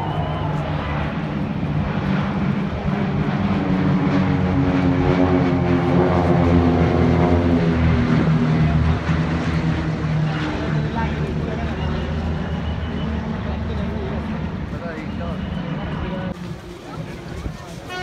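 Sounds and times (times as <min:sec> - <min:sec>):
propeller aircraft engines droning: 0:00.0 - 0:18.0.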